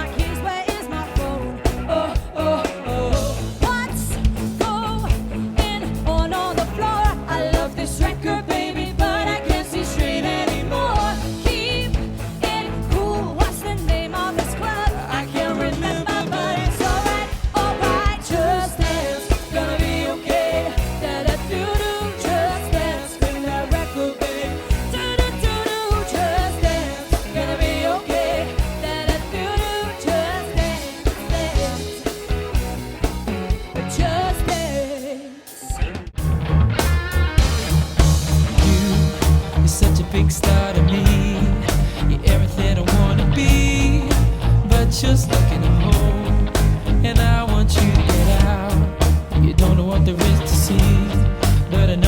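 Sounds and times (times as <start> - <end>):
lead voice singing: 0.0 - 32.7, 33.6 - 35.8, 38.4 - 52.0
steady drum beat: 0.0 - 35.1, 36.2 - 52.0
bass: 0.0 - 52.0
guitar: 0.0 - 52.0
live pop-rock band: 0.0 - 52.0.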